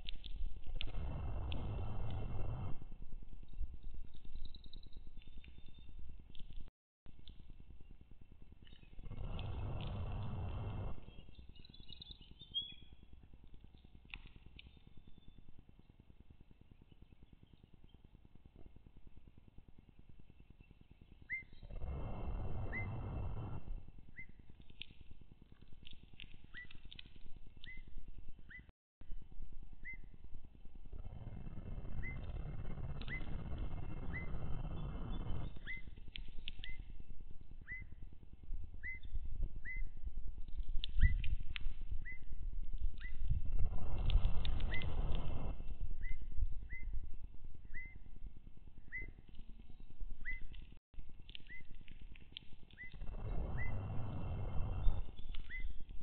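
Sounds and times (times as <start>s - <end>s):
wind rumble on microphone: 0.0s - 15.8s, 16.6s - 56.0s.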